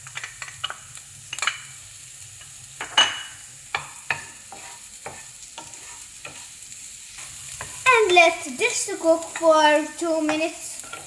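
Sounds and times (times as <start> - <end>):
onion frying in oil: 0.0 - 11.0.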